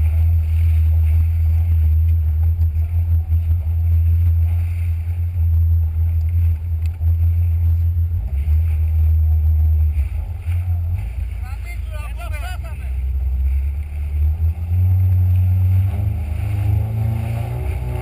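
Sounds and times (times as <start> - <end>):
jet ski engine drone: 0.0 - 18.0.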